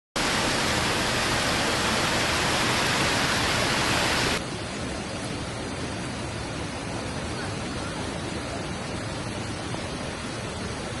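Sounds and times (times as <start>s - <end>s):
floodwater rushing: 0.2s - 11.0s.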